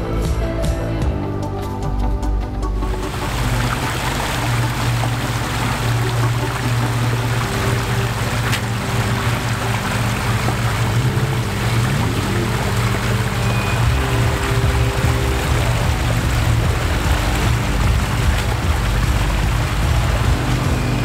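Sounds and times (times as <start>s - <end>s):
engine running at low revs: 2.8s - 21.0s
flowing water: 2.8s - 21.0s.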